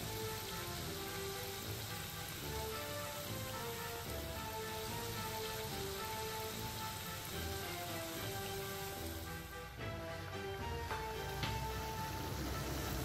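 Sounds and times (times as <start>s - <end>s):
fritters sizzling in hot oil: 0.0s - 13.0s
soft background music: 0.0s - 13.0s.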